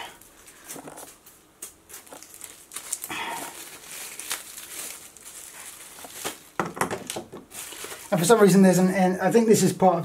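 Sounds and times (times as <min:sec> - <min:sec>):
plastic bags crinkling: 0:00.2 - 0:08.5.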